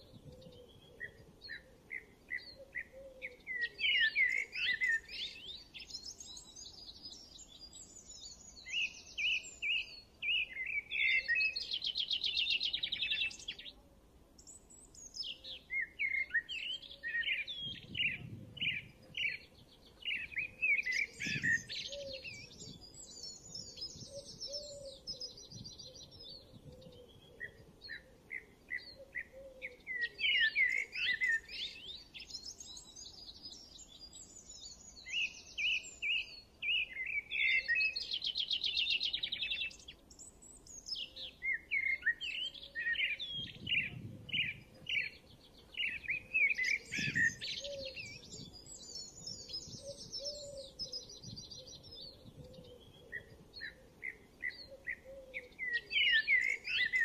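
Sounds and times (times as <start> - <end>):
birds chirping and trilling: 0.0 - 13.8, 14.4 - 57.0.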